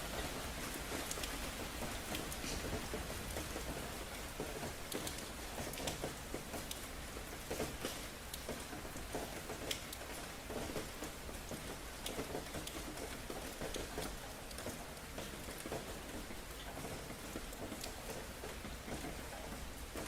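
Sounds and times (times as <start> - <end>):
rain drops tapping a surface: 0.0 - 20.0.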